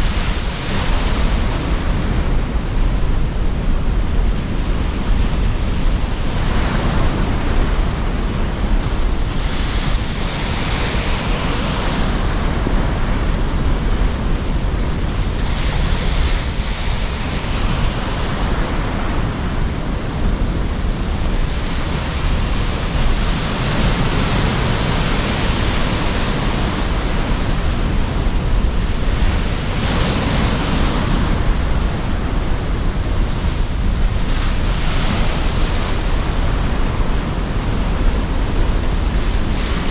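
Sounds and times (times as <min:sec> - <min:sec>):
gusty wind: 0:00.0 - 0:39.9
surf breaking on shore: 0:00.0 - 0:39.9.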